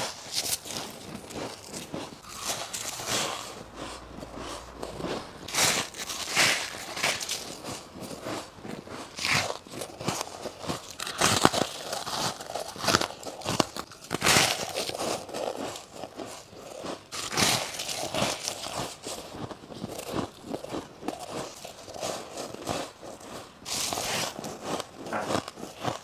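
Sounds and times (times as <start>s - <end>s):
crunching bites into ice: 0.0s - 26.0s.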